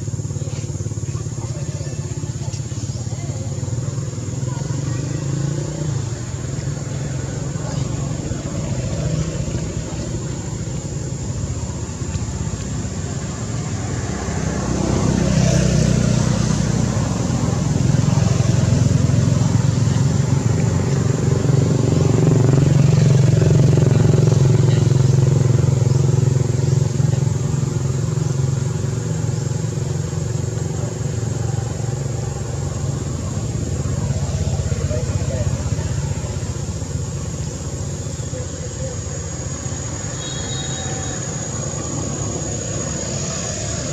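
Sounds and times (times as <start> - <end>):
motor engine running: 0.0 - 43.9.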